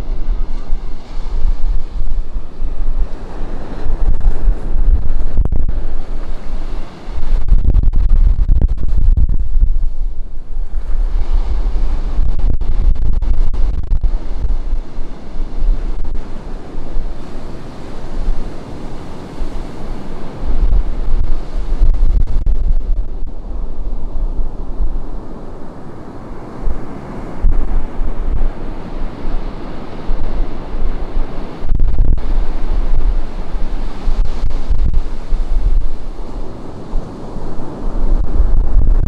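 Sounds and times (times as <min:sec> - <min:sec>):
ocean surf breaking on beach: 0:00.0 - 0:39.0
wind buffeting microphone: 0:00.0 - 0:39.0.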